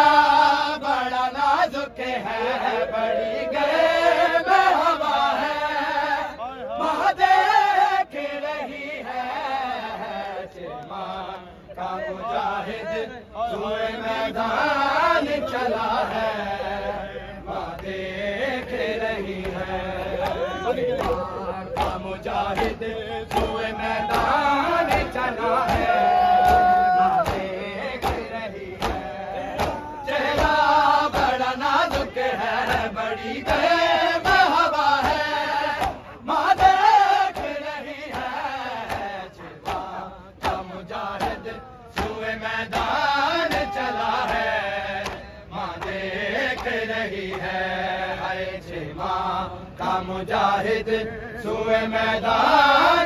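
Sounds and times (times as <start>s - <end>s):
men chanting through loudspeaker: 0.0s - 53.0s.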